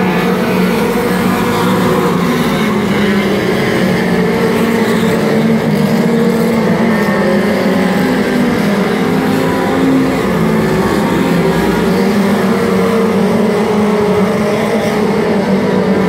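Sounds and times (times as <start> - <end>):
race car engines at speed: 0.0 - 16.0.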